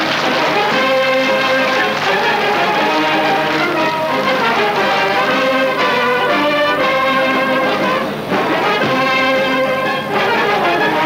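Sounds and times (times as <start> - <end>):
brass instruments holding chords: 0.0 - 11.0.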